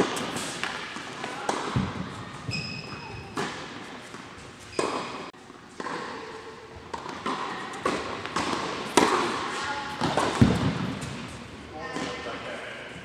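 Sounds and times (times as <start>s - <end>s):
tennis balls bouncing on hard court: 0.0s - 12.2s
tennis balls knocking off rackets: 0.0s - 12.2s.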